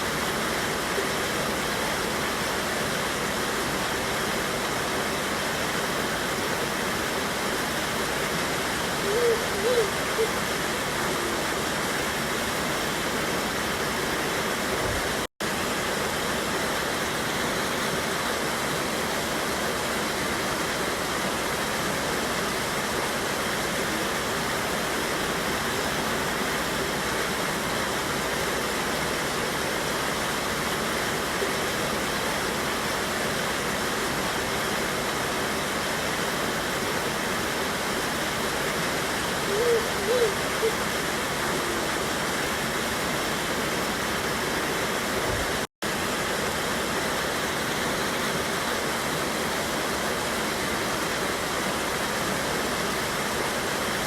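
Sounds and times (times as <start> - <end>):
water pouring over waterfall: 0.0 - 54.0.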